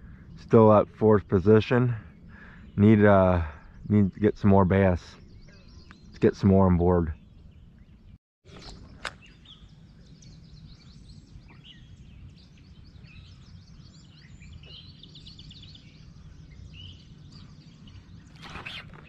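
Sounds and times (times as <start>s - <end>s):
low steady rumble: 0.0s - 8.2s, 8.8s - 18.4s
small birds chirping and trilling: 0.0s - 19.0s.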